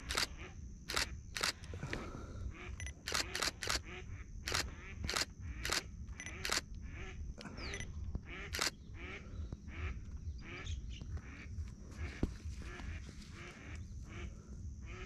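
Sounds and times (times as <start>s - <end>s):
birds calling: 0.0s - 14.4s.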